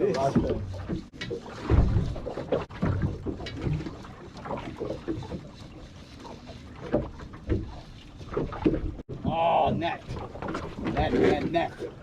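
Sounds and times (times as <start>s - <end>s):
water sloshing against boat hull: 0.0s - 12.0s.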